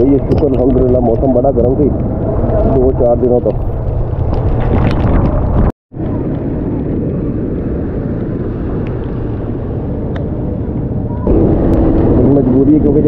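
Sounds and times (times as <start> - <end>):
street traffic rumble: 1.2 - 13.0.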